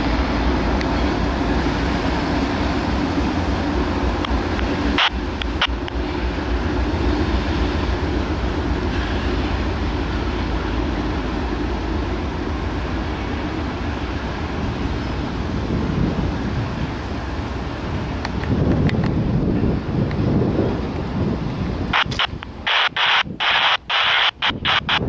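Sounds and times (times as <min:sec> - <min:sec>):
diesel locomotives running: 0:00.0 - 0:25.0.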